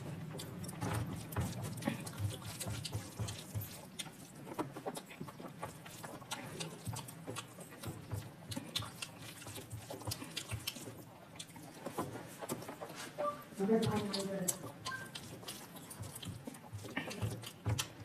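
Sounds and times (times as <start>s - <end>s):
wet chewing and lip smacks: 0.0s - 18.0s.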